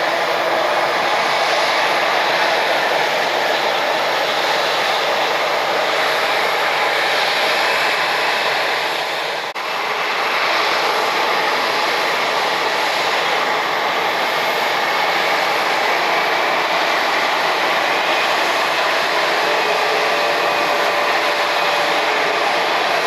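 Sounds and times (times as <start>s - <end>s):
jet engines hissing: 0.0s - 23.0s.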